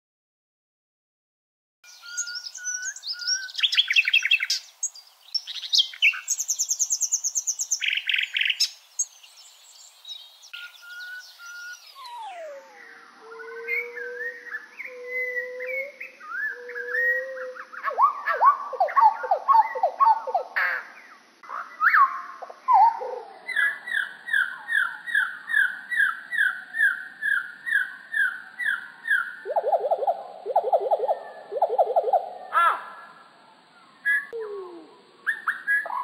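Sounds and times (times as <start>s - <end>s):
slowed birdsong whistles: 1.9s - 36.0s.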